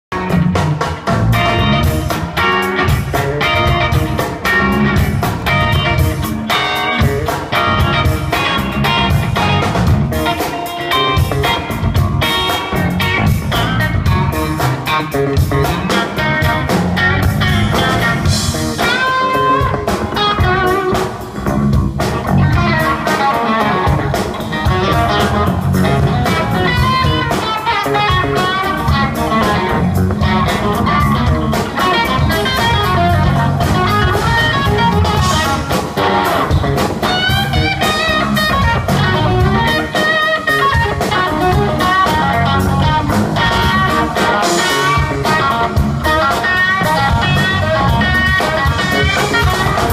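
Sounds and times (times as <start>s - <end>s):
drum kit: 0.1s - 49.9s
electric bass: 0.1s - 49.9s
electric guitar melodic lines: 0.1s - 49.9s.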